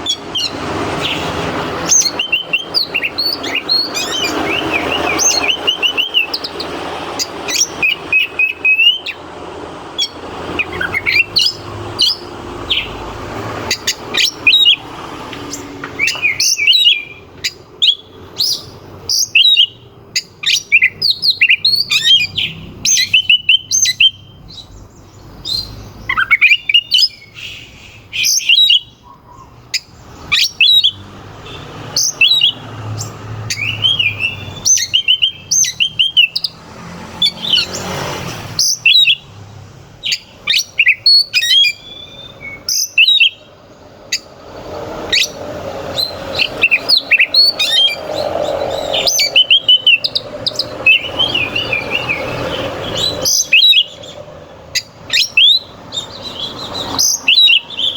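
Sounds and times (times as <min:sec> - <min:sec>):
magpie-robin singing: 0:00.0 - 0:39.4, 0:40.0 - 0:57.9.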